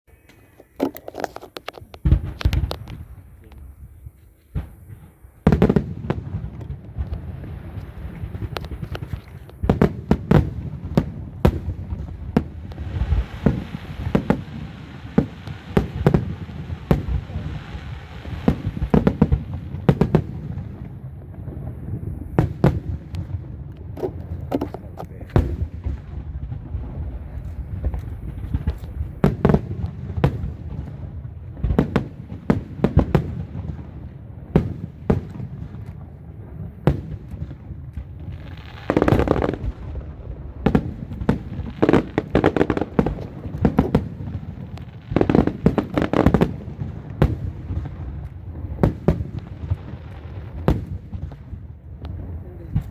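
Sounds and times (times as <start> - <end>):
sharp bangs and pops: 0.3 - 3.6, 4.5 - 52.9.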